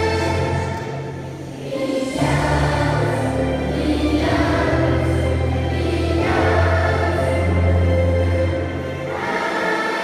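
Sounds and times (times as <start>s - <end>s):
group singing a hymn: 0.0s - 10.0s.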